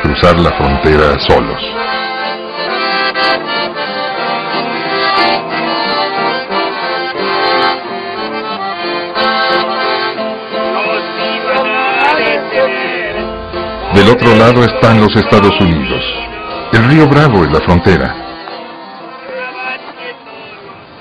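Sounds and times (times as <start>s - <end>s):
accordion music: 0.0s - 21.0s.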